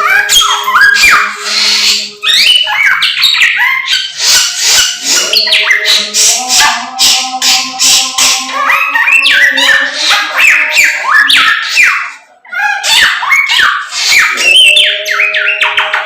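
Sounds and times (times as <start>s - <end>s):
songbird singing whistled notes: 0.0s - 12.0s, 13.0s - 16.0s.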